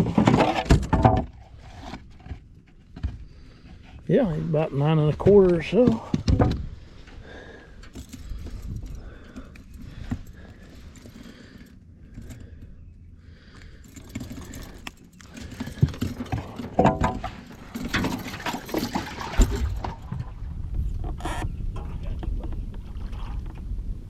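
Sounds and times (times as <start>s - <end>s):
fishing gear rattling and clicking: 0.0s - 20.4s.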